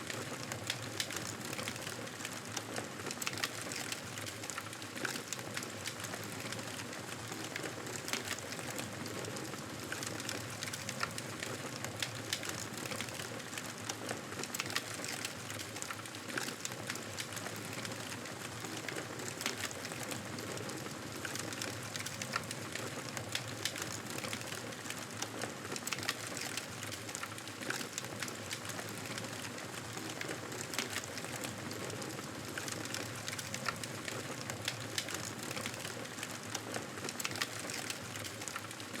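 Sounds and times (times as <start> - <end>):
wood fire crackling: 0.1 - 39.0.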